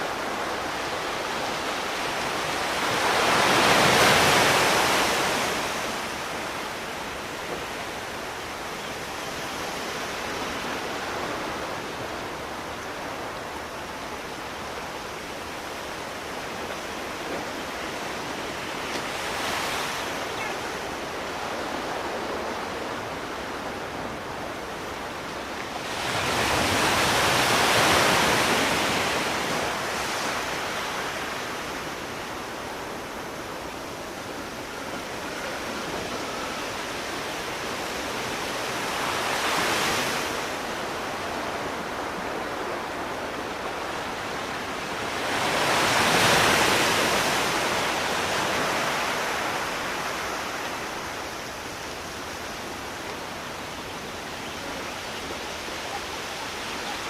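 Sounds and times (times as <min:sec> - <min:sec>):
sea waves breaking on shore: 0:00.0 - 0:57.0.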